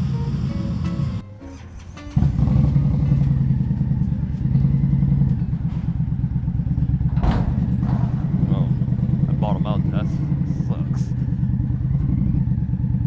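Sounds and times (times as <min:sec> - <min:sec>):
motorcycle engine running: 0:00.0 - 0:01.2, 0:02.1 - 0:13.0.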